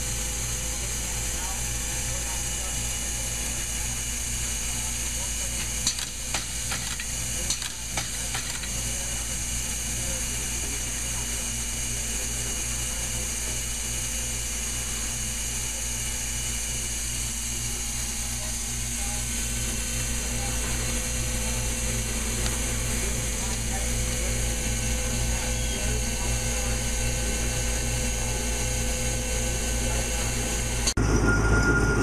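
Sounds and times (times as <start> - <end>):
machinery humming with low pulsing: 0.0 - 32.0.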